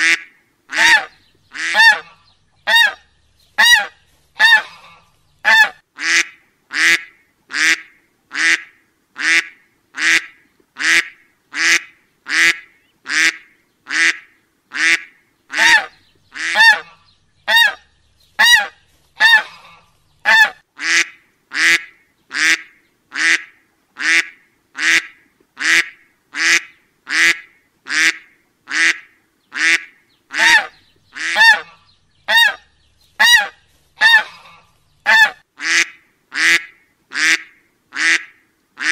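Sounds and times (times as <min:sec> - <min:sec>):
duck quacking: 0:00.0 - 0:03.0, 0:03.6 - 0:17.8, 0:18.4 - 0:38.9.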